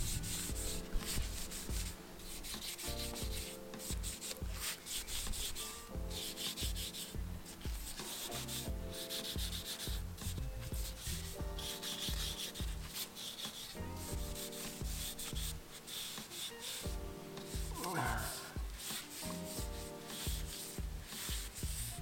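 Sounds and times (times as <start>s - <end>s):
rag rubbing wooden rim: 0.0s - 22.0s
soft background music: 0.0s - 22.0s.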